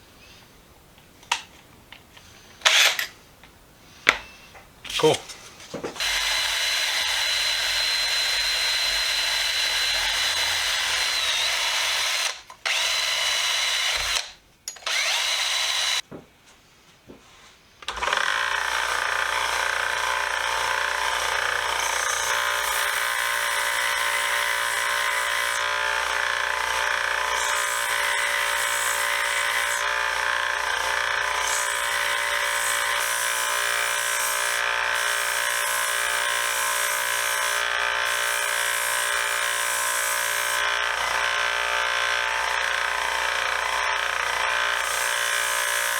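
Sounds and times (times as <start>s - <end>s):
power tool running: 5.9s - 16.0s, 17.8s - 45.9s.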